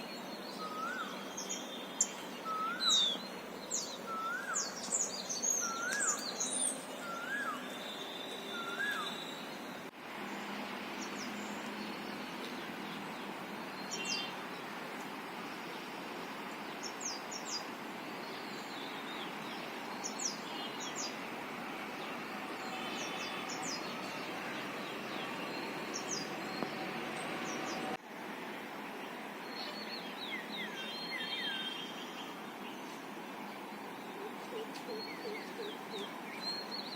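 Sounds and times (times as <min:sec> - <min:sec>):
small birds chirping: 0:00.0 - 0:28.0, 0:28.8 - 0:36.9
steady background hiss: 0:00.0 - 0:36.9.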